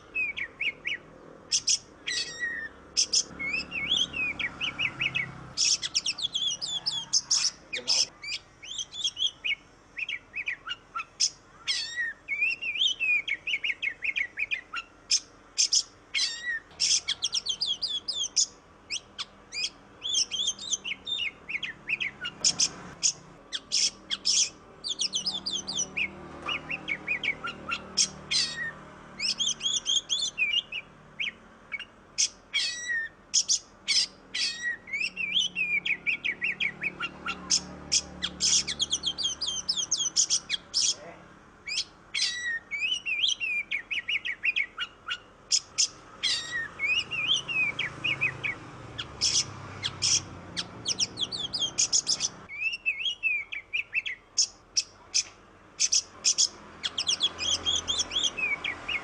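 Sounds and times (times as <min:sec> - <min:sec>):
bird whistling and chattering: 0:00.0 - 0:59.0.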